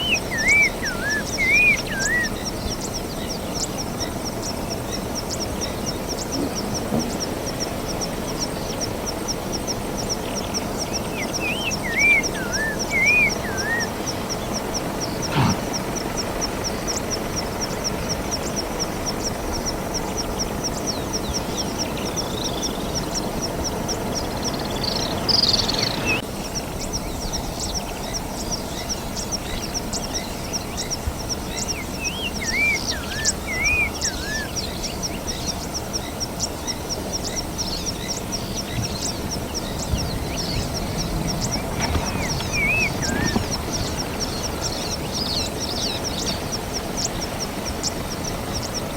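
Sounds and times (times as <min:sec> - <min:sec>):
warbling bird calls: 0:00.0 - 0:48.9.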